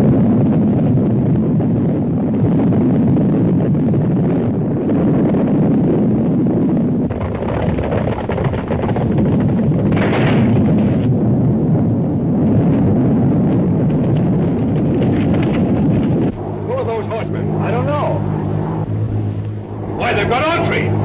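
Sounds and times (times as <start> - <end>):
rumbling with explosions and gunfire: 0.0 - 21.0.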